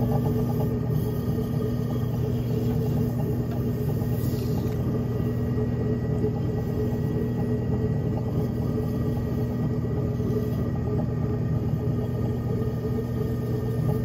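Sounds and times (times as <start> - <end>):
potter's wheel motor hum: 0.0 - 14.0.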